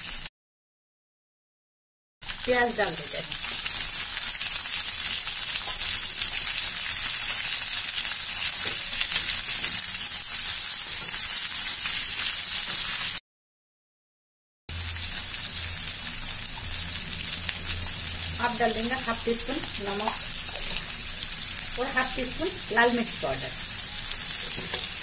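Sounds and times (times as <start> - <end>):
vegetables sizzling in oil: 0.0 - 0.3, 2.2 - 13.2, 14.7 - 25.0.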